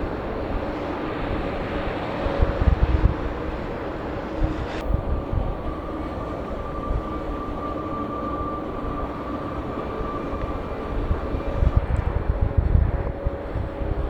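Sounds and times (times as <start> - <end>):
jet engine high whine: 0.0 - 14.0
jet engines rumbling: 0.0 - 14.0.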